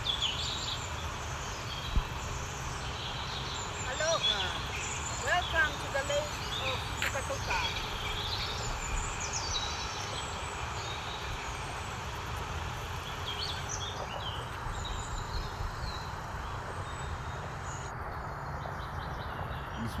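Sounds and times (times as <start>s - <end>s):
low outdoor rumble: 0.0s - 20.0s
wild birds chirping: 0.0s - 20.0s.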